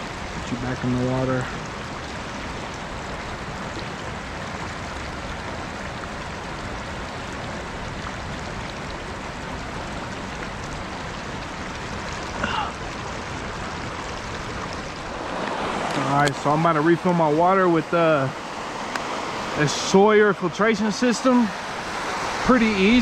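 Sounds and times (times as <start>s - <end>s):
river flowing: 0.0s - 23.0s.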